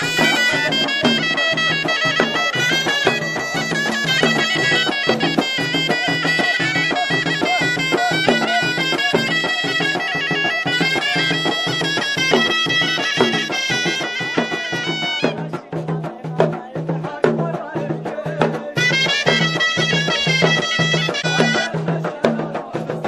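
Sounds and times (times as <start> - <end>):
shawm playing folk melody: 0.0 - 16.3, 17.0 - 22.8
drum beats: 0.0 - 23.0.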